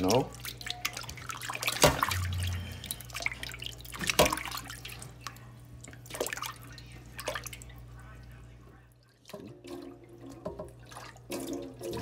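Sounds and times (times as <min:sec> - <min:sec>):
water sloshing in a metal bowl: 0:00.0 - 0:12.0.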